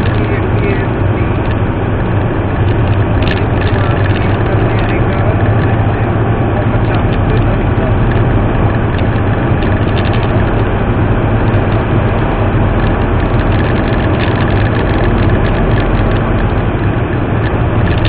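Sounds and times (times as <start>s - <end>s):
road and engine noise in car: 0.0s - 18.0s.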